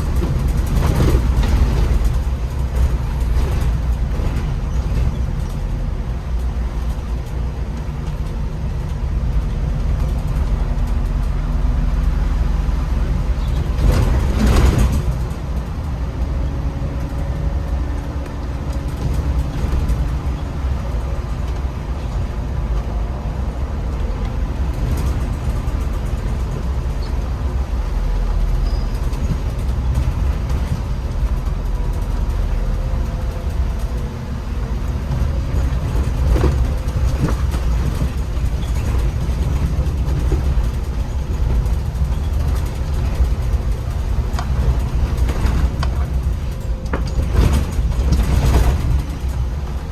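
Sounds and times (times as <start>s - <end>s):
bus driving rumble: 0.0s - 49.9s.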